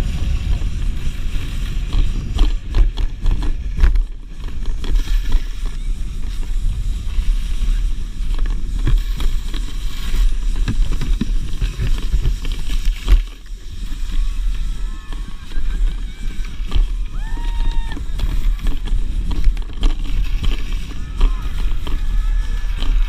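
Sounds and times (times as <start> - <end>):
kayak hull scraping on snow: 0.0 - 23.0.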